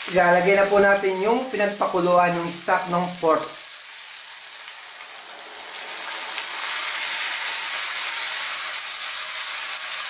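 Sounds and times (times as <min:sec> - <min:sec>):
stock sizzling in hot wok: 0:00.0 - 0:10.0.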